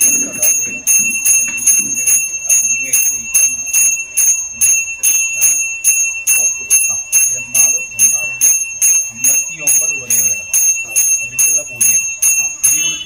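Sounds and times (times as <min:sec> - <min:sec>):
hand bell ringing: 0:00.0 - 0:13.0.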